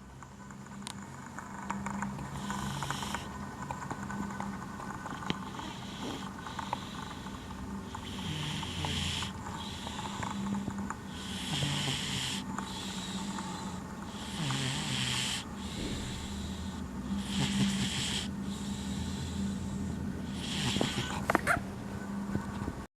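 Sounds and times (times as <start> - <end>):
cat snoring: 1.8 - 3.5, 4.3 - 21.5.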